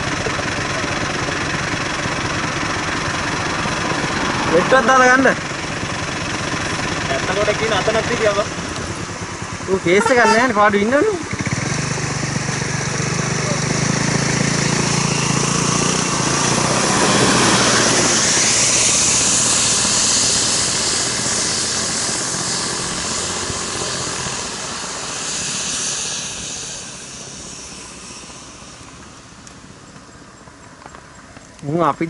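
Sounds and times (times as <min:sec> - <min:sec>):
lorry driving past: 0:00.0 - 0:30.0.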